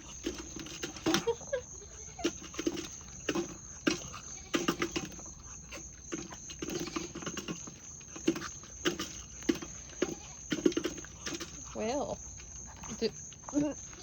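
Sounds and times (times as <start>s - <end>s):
animals crunching dry cat food: 0.0s - 14.0s.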